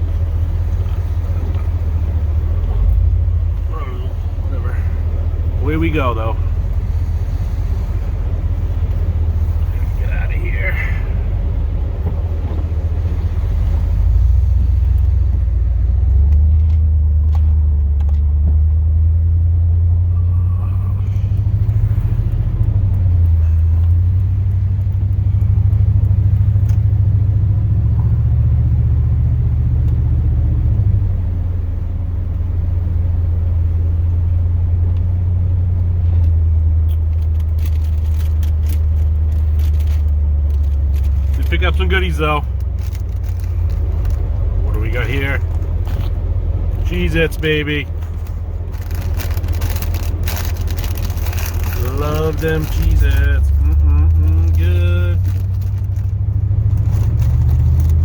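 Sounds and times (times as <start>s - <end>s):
truck engine rumbling: 0.0s - 58.0s.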